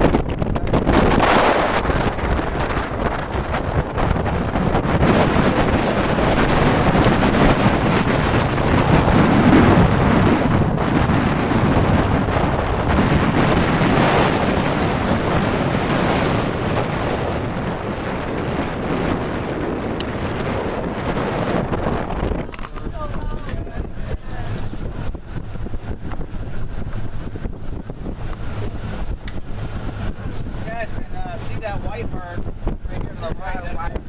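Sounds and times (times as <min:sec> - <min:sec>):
boat and water: 0:00.0 - 0:34.0
wind buffeting microphone: 0:00.0 - 0:34.0.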